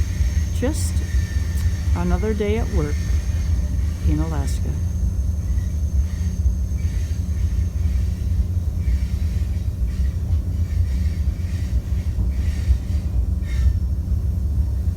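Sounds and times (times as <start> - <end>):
train rumbling: 0.0 - 14.9.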